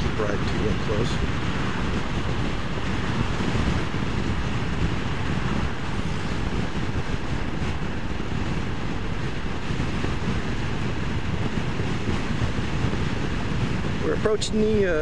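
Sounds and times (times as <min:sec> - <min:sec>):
road noise: 0:00.0 - 0:15.0
wind rush over microphone: 0:00.0 - 0:15.0.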